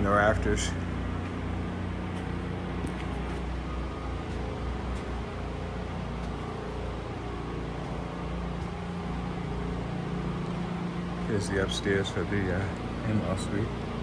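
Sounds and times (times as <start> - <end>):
machinery humming: 0.0 - 14.0.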